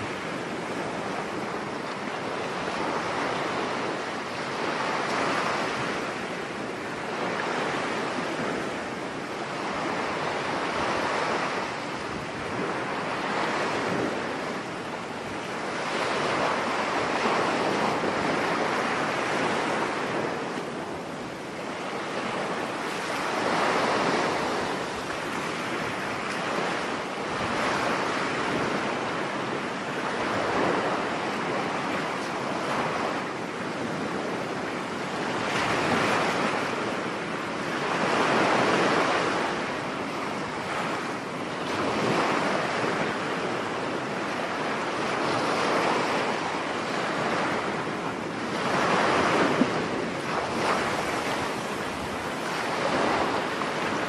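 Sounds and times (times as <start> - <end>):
surf breaking on a beach: 0.0 - 54.0
wind: 0.0 - 54.0.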